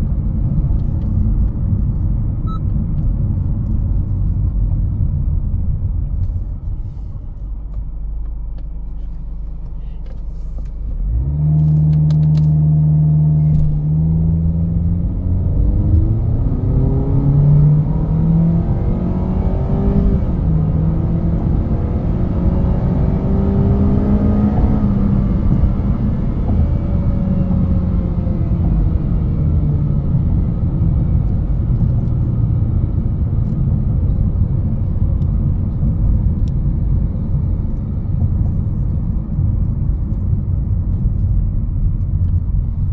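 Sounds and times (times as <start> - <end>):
car engine accelerating: 0.0 - 42.9
road rumble: 0.0 - 42.9.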